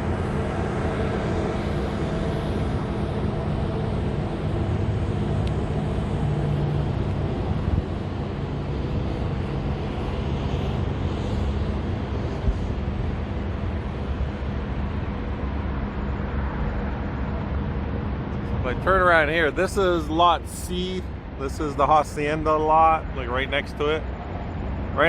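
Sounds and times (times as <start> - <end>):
street traffic engines rumbling: 0.0 - 25.0.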